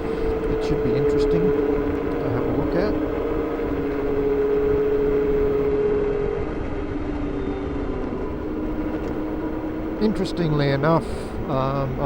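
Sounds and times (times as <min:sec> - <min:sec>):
electric motor whine: 0:00.0 - 0:12.0
wind and road noise: 0:00.0 - 0:12.0.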